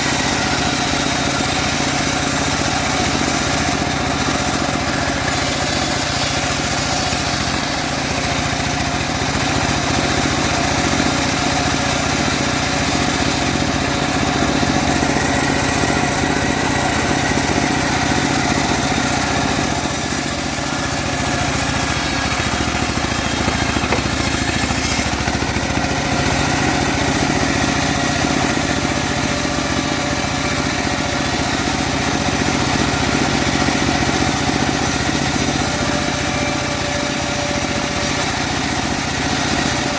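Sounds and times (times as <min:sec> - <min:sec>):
bandsaw sawmill drone: 0:00.0 - 0:39.9.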